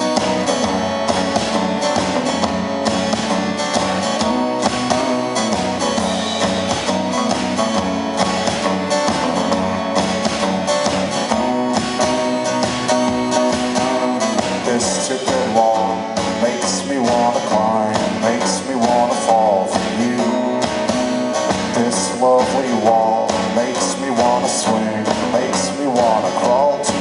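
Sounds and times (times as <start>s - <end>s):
pop band playing: 0.0s - 27.0s
strummed guitar: 0.0s - 27.0s.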